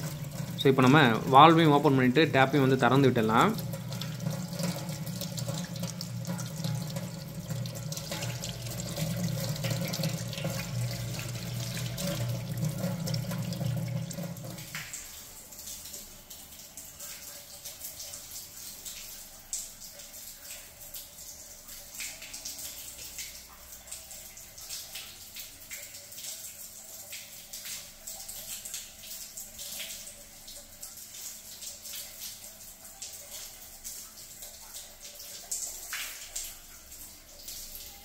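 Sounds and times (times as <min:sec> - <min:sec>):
water splashing onto tiled floor: 0:03.1 - 0:38.0.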